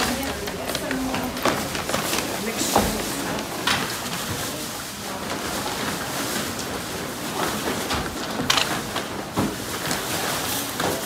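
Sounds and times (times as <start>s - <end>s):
paper and plastic bags rustling: 0.0s - 11.0s.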